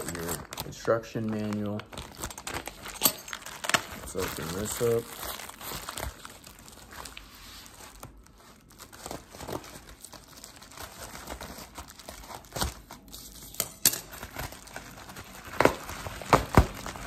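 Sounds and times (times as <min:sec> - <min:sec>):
bubble wrap crackles: 0:00.0 - 0:17.0
bubble wrap crinkling: 0:00.0 - 0:17.0.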